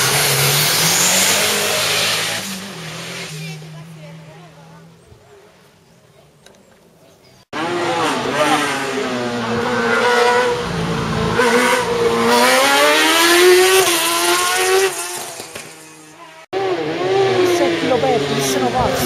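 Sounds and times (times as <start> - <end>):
racing car engine revving: 0.0 - 4.4, 7.5 - 19.0.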